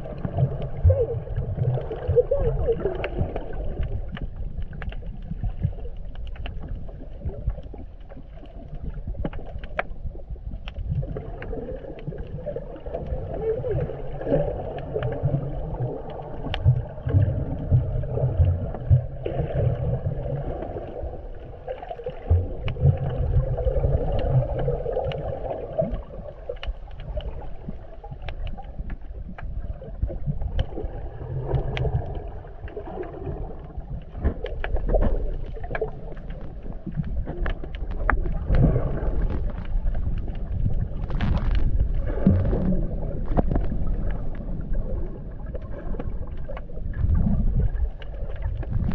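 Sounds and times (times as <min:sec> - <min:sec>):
underwater sloshing and gurgling: 0:00.0 - 0:48.9.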